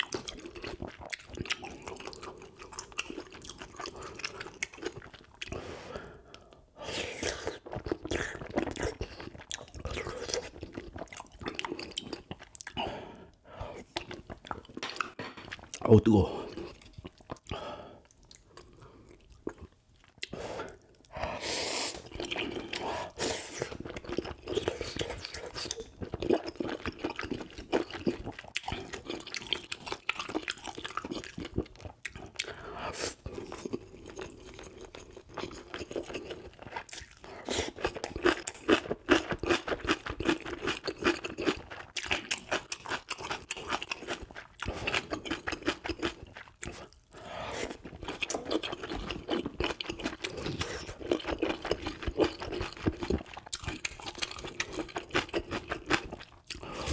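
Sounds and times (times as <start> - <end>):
person chewing with wet smacking: 0.0 - 5.6, 7.2 - 15.9, 16.5 - 21.1, 22.0 - 22.9, 23.5 - 56.9.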